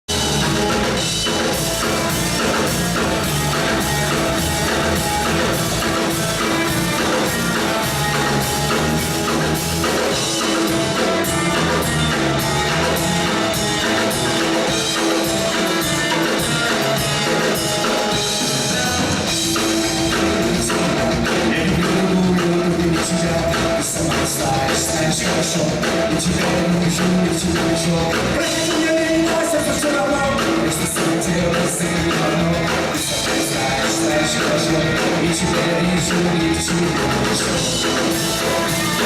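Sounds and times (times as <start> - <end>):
drum kit beat: 0.0 - 39.0
rock guitars: 0.0 - 39.0.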